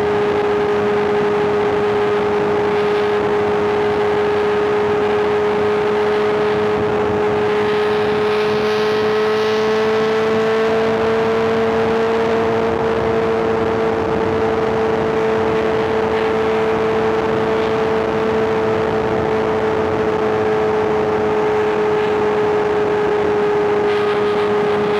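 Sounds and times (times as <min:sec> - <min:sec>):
wind noise: 0:00.0 - 0:24.9
motorcycle engine cruising: 0:00.5 - 0:24.9.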